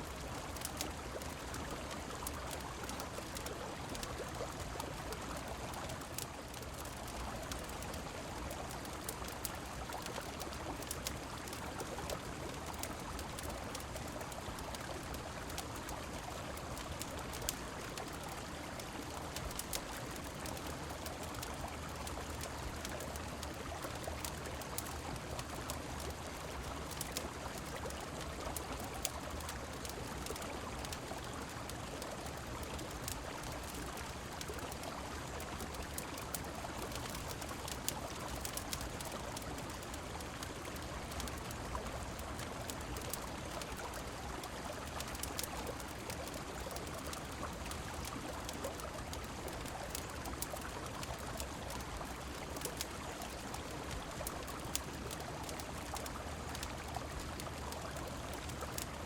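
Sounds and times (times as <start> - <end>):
rain: 0.0 - 59.0
wood fire crackling: 0.1 - 59.0.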